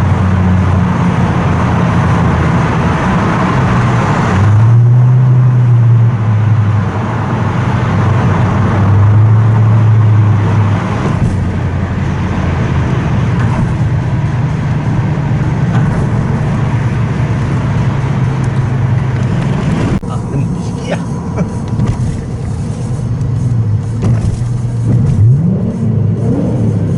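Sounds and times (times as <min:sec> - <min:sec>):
car exhaust drone in tunnel: 0:00.0 - 0:26.9.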